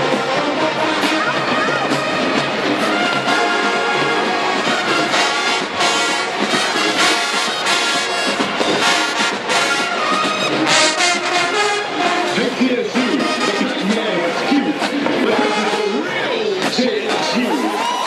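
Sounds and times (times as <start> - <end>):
marching band brass playing: 0.0 - 18.0.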